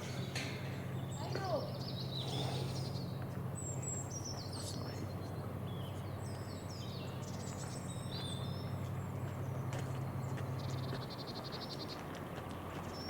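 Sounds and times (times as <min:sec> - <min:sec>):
birds singing and chirping: 0:00.0 - 0:13.0
steady low hum: 0:00.0 - 0:13.0.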